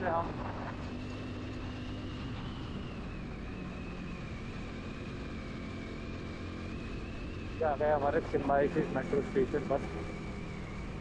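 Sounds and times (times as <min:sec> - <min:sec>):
faint high whine: 0:00.0 - 0:11.0
motorcycle engine humming: 0:00.0 - 0:11.0
road noise: 0:00.0 - 0:11.0.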